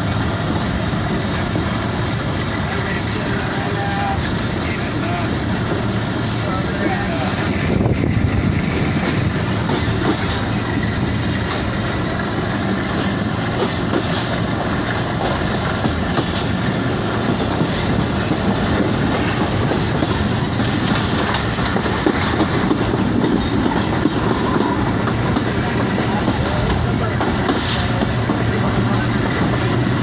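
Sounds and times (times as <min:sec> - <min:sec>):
coach clattering and rattling: 0:00.0 - 0:30.0
train wheels rumbling on rails: 0:00.0 - 0:30.0.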